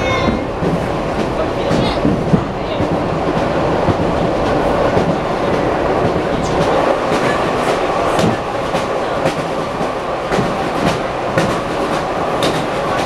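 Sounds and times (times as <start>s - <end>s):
clickety-clack of rail joints: 0.0s - 13.0s
oncoming train passing: 0.0s - 13.0s
train wheel and rail noise: 0.0s - 13.0s.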